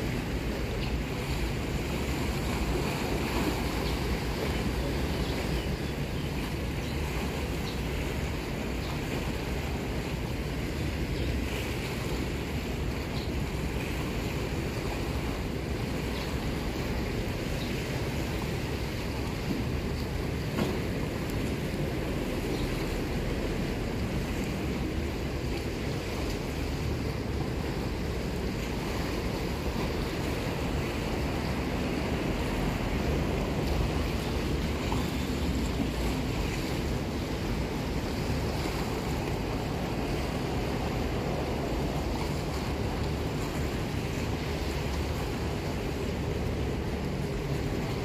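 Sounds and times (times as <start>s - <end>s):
sea waves breaking on boulders: 0.0s - 48.0s
wind rumbling on microphone: 0.0s - 48.0s.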